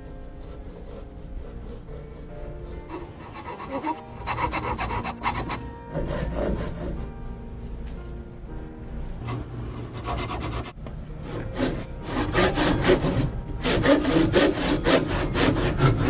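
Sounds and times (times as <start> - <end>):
hand saw cutting wood: 0.4 - 7.0, 9.2 - 16.0.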